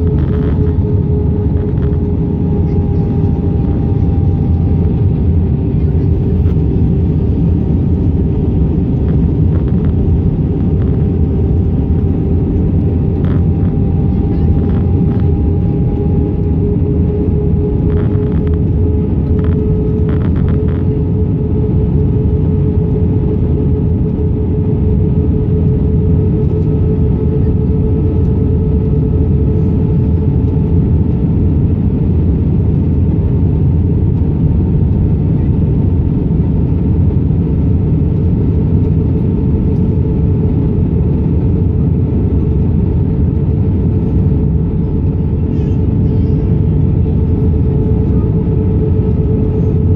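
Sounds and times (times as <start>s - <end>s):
airflow over fuselage: 0.0s - 49.9s
jet engines droning: 0.0s - 49.9s.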